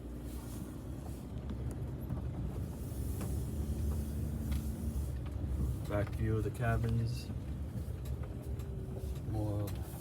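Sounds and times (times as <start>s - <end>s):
vehicle rolling low rumble: 0.0s - 10.0s.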